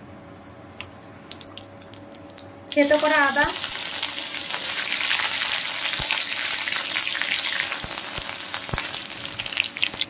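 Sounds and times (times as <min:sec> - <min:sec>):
hot oil sizzling and crackling: 0:01.3 - 0:10.0.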